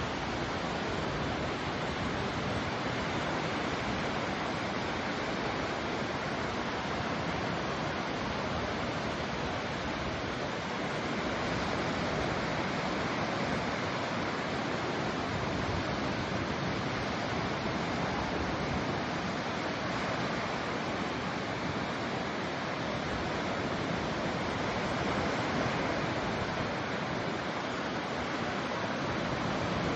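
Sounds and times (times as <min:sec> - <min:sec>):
ocean surf: 0:00.0 - 0:29.9.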